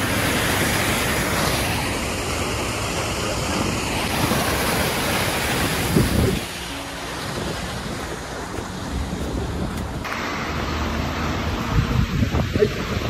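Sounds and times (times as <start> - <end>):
water gushing over concrete: 0.0 - 13.0.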